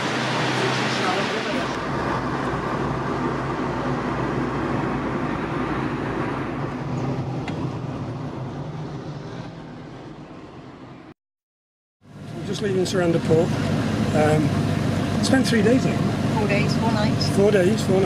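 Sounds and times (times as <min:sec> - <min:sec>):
car engine and road noise: 0:00.0 - 0:11.2, 0:12.0 - 0:18.0.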